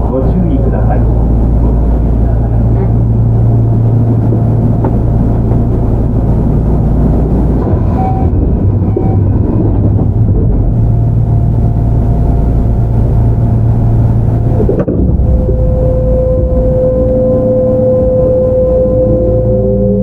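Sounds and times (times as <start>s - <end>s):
faint steady tones: 0.0s - 20.0s
train motors and wheels rumbling: 0.0s - 20.0s.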